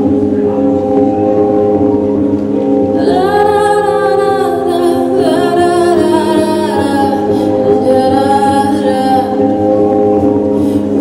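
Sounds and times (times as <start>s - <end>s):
sustained chords: 0.0s - 11.0s.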